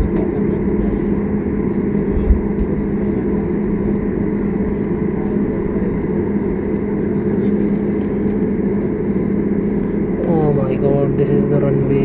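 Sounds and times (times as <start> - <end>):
jet engines at low power: 0.0 - 12.0.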